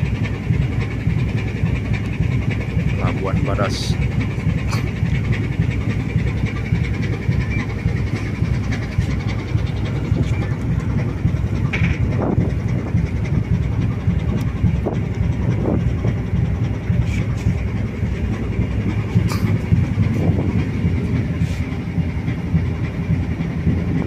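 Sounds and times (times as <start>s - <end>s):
ship engine rumble: 0.0s - 24.0s.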